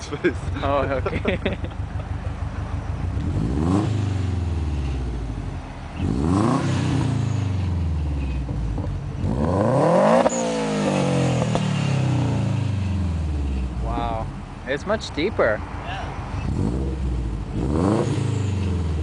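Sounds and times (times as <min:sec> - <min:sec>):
turbocharged car engine revving: 0:00.0 - 0:15.6, 0:16.3 - 0:19.0.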